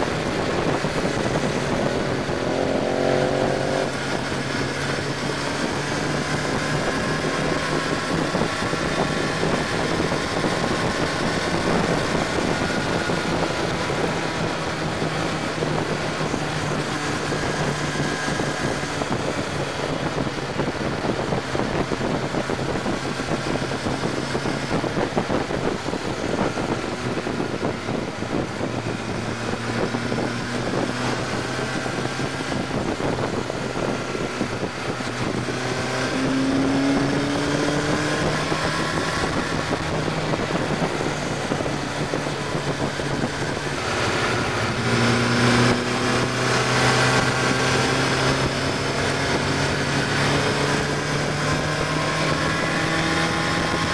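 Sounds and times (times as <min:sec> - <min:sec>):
motorcycle engine running: 0:00.0 - 0:53.9
wind rushing past: 0:00.0 - 0:53.9.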